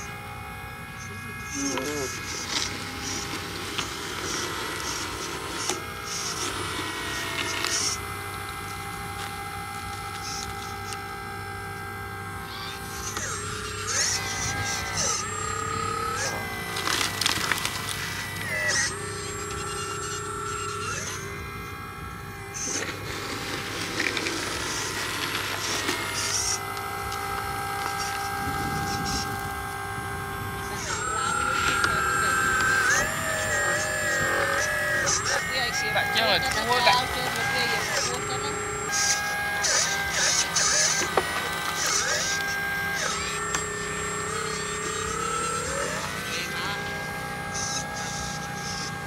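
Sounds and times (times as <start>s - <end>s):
electric motors whining: 0.0s - 49.0s.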